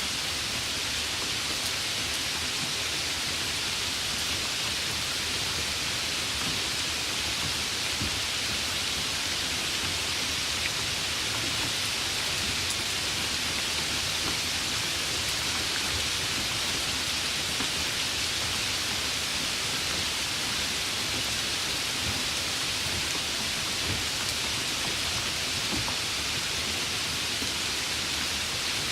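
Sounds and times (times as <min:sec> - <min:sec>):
light rain hissing: 0:00.0 - 0:28.9
rain drops ticking: 0:00.1 - 0:28.9.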